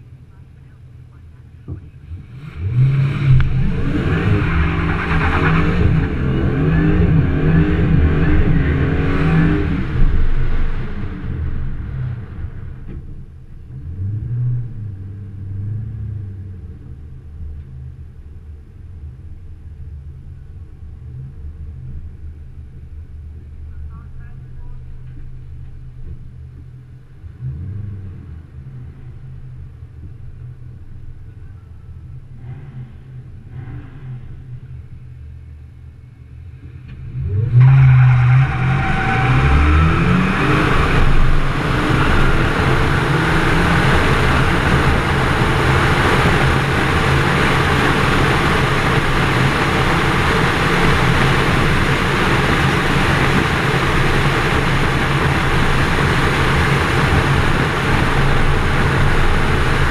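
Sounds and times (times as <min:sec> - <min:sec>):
car engine revving and accelerating: 0:01.9 - 0:18.2, 0:26.8 - 0:35.3, 0:36.4 - 0:59.9.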